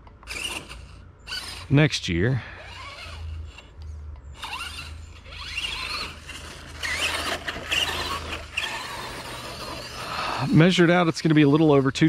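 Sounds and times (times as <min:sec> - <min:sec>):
toy truck motor whining: 0:00.2 - 0:12.0.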